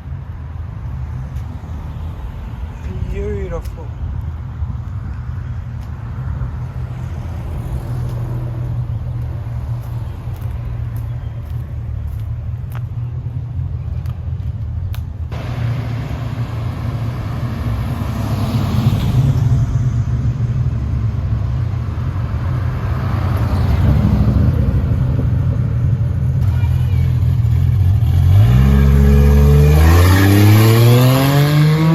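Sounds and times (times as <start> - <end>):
car engines rumbling: 0.0 - 31.9.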